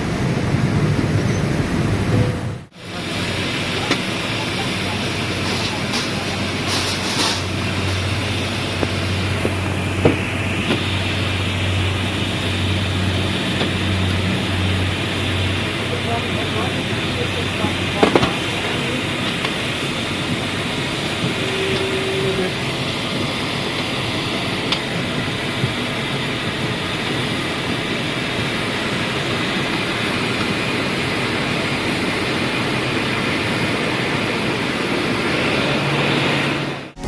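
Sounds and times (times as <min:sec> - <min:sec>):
cockpit engine and air rushing: 0:00.0 - 0:37.0.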